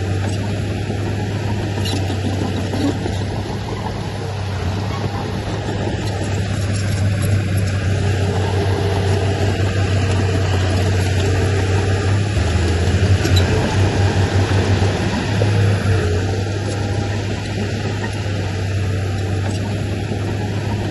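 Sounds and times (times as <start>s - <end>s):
heavy diesel engine droning: 0.0s - 20.9s.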